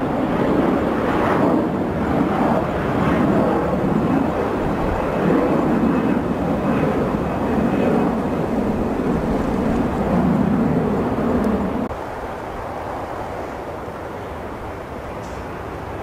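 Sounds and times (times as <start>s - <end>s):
faint high engine whine: 0.0s - 16.0s
jet engine rumble: 0.0s - 16.0s.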